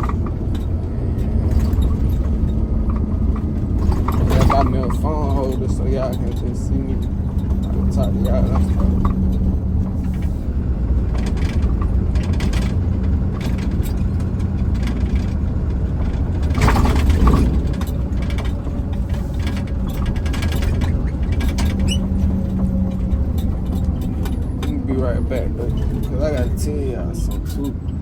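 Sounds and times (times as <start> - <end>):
truck engine and road drone: 0.0 - 28.0.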